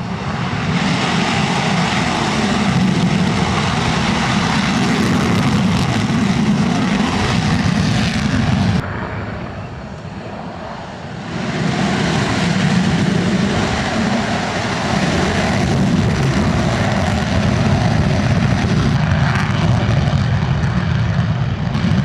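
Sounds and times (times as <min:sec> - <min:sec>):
aircraft engine roar: 0:00.0 - 0:22.0.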